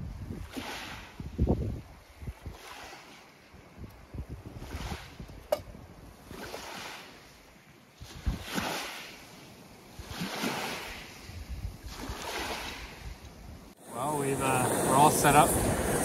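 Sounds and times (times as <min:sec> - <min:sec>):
small waves lapping on shore: 0:00.0 - 0:16.0.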